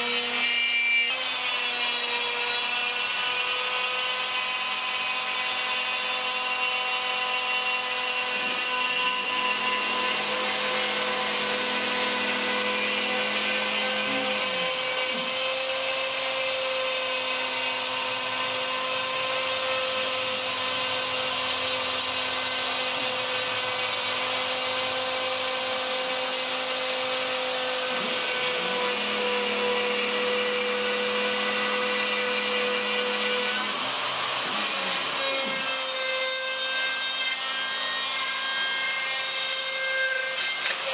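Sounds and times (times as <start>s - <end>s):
hiss of router cutting wood: 0.0s - 40.9s
wood router high whine: 0.0s - 40.9s.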